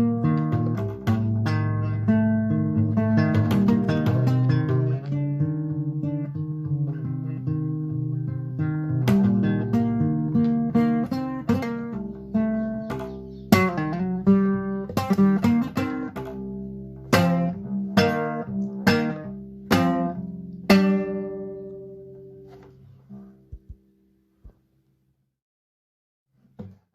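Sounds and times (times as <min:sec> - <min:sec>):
acoustic guitar chords: 0:00.0 - 0:24.6.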